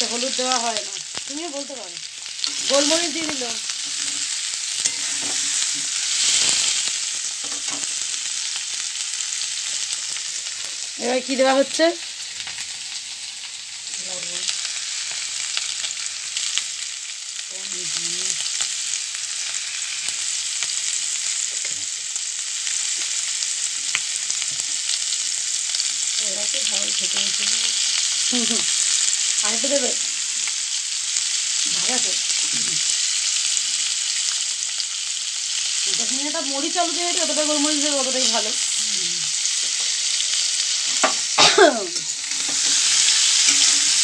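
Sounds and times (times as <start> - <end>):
potatoes frying sizzle: 0.0 - 44.0.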